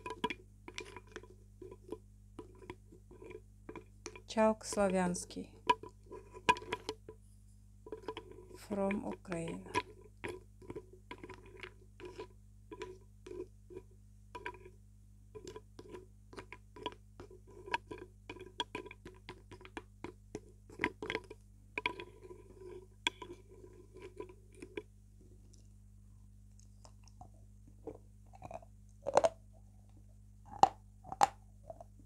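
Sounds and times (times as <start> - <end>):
wooden spoon stirring in bowl: 0.0 - 25.8.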